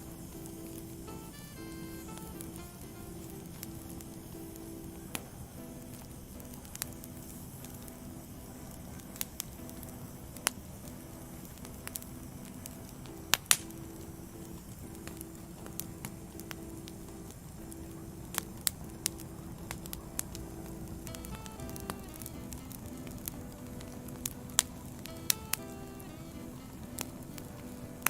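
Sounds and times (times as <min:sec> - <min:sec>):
soft sustained background music: 0:00.0 - 0:28.0
wood fire crackling and popping: 0:00.0 - 0:28.0.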